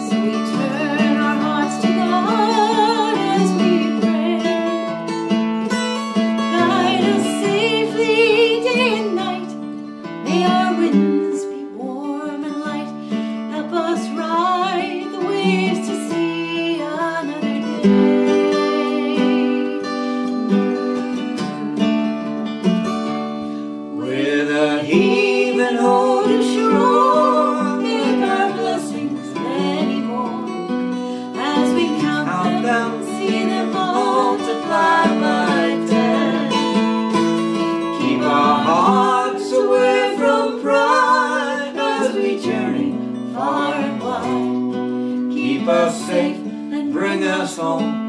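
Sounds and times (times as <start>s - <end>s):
acoustic guitar strumming: 0.0s - 48.0s
folk song melody: 0.0s - 48.0s.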